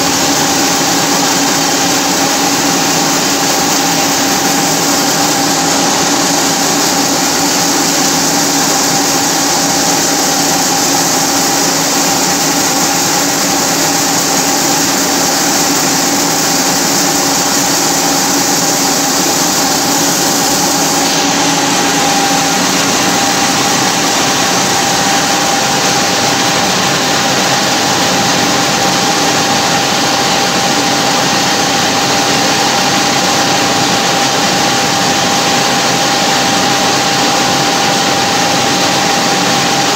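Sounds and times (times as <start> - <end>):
lathe cutting metal: 0.0 - 35.9
constant machine whine: 0.0 - 39.9.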